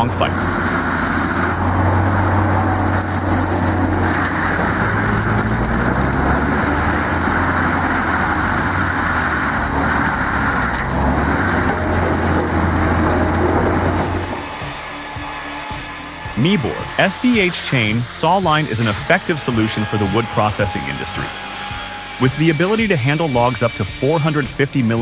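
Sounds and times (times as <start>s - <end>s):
forestry mulcher grinding stump: 0.0s - 25.0s.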